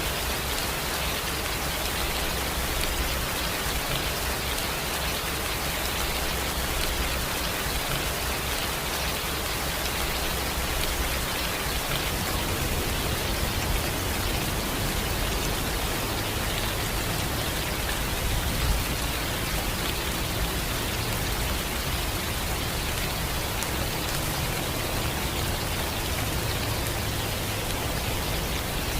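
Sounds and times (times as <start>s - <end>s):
steady rain hiss: 0.0s - 28.9s.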